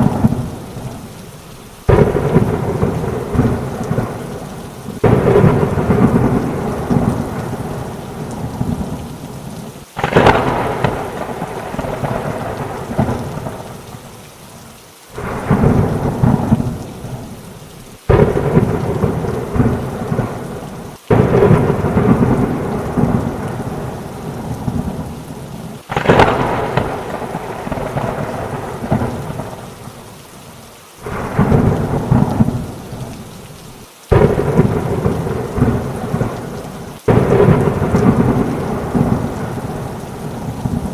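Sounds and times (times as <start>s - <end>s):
thunderclaps rumbling: 0.0s - 1.1s, 1.8s - 14.1s, 15.2s - 29.8s, 31.0s - 33.3s, 34.1s - 40.9s
heavy rain hissing: 0.0s - 40.9s.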